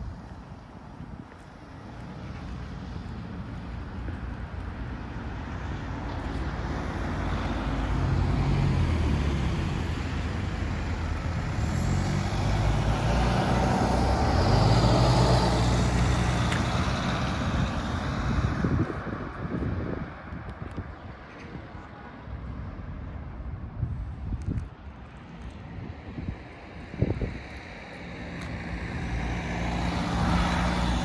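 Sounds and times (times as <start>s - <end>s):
cars driving past: 0.0s - 21.7s, 25.0s - 31.0s.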